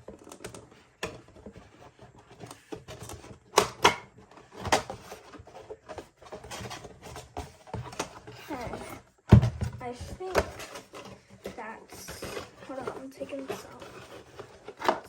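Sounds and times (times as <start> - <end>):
hands handling cardboard packaging: 0.0 - 15.0.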